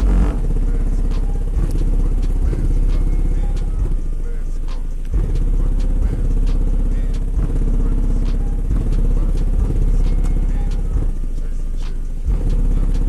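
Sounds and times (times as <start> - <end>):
deep subwoofer bass notes: 0.0 - 13.0.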